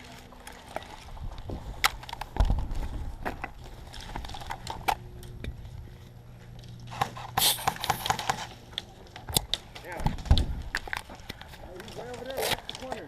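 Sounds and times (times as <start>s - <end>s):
low rumble of movement: 0.0s - 7.4s, 8.2s - 12.2s.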